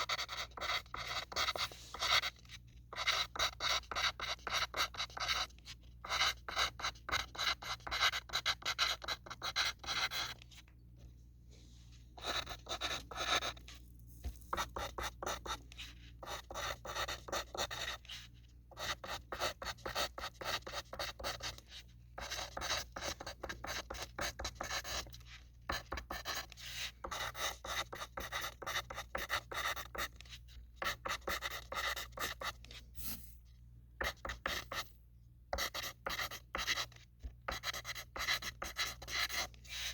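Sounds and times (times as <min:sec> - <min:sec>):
pencil scratching on paper: 0:00.0 - 0:10.6, 0:11.8 - 0:33.2, 0:34.0 - 0:34.9, 0:35.5 - 0:39.9.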